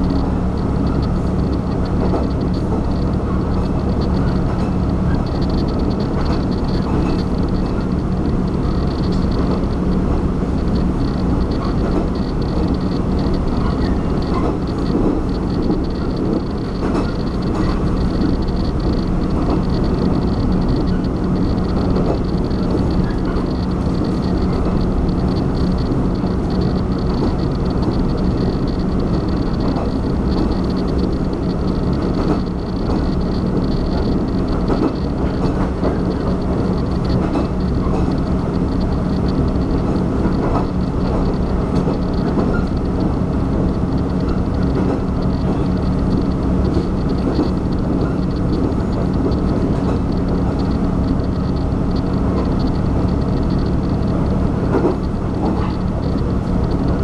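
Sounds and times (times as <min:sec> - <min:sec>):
steady low hum: 0:00.0 - 0:57.0
train wheels rumbling on track: 0:00.0 - 0:57.0.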